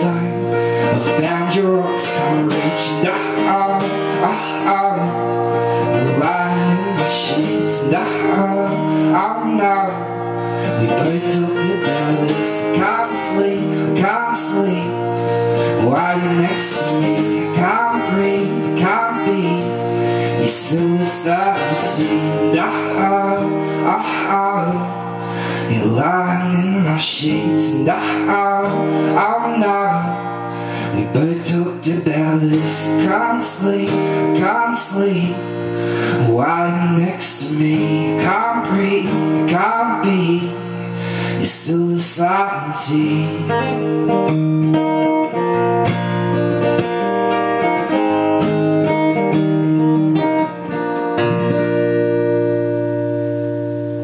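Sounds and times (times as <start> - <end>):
acoustic guitar strummed and picked: 0.0 - 54.0.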